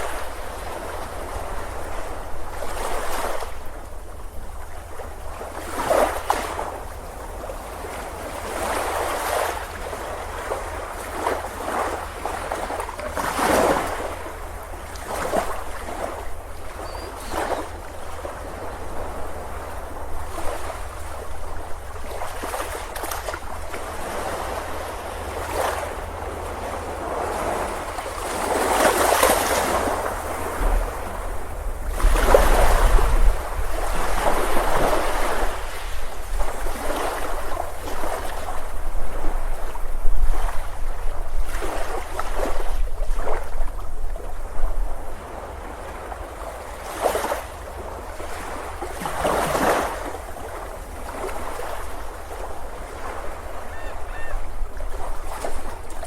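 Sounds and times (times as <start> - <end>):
wind rumbling on microphone: 0.0 - 47.0
ocean waves breaking on beach: 0.0 - 56.0.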